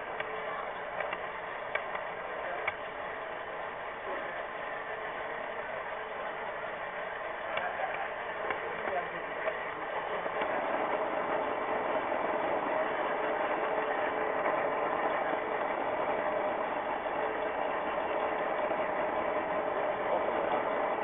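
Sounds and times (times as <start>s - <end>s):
model train motor whirring: 0.0s - 21.0s
steady whine: 0.0s - 21.0s.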